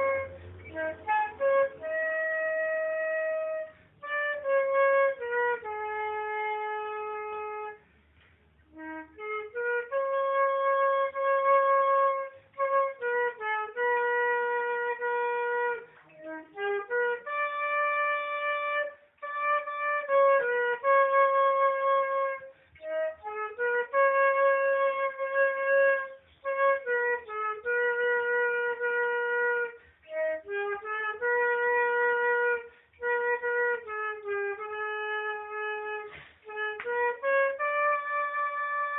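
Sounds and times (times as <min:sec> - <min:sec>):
flute playing slow melody: 0:00.0 - 0:38.9.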